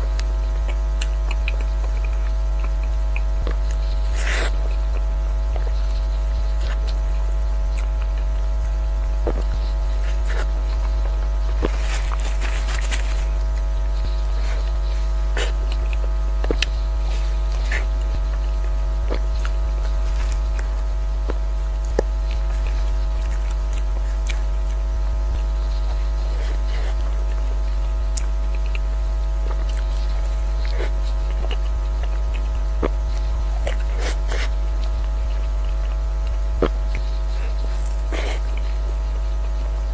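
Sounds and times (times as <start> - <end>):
low electrical hum: 0.0 - 39.9
mouth chewing wet clicks: 0.1 - 39.8.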